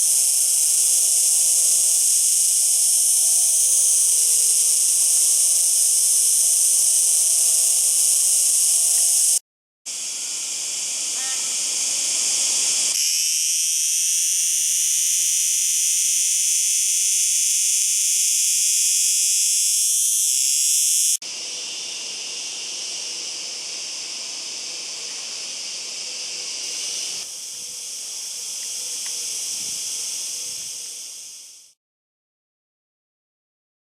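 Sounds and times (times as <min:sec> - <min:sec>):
cicada buzzing: 0:00.0 - 0:31.8.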